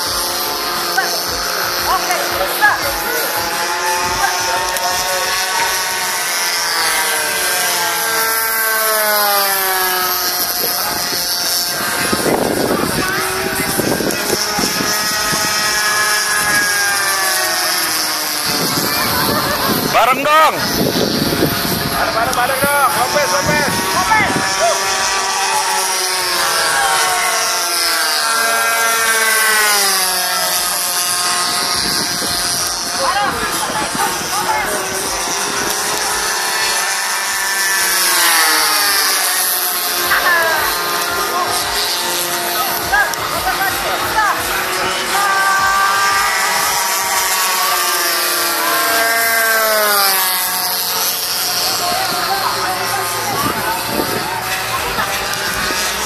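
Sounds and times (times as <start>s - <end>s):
model plane engine drone: 0.0s - 56.0s.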